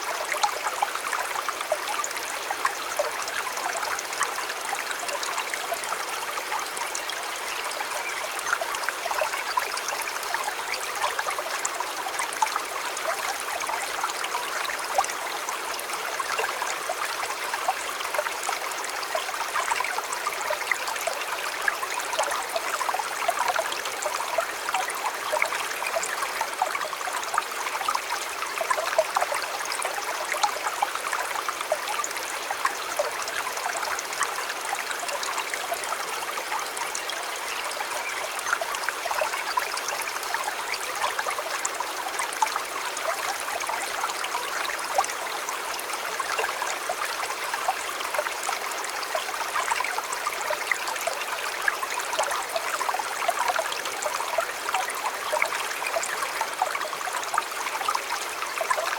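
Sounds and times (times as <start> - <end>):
stream flowing over stones: 0.0 - 58.9.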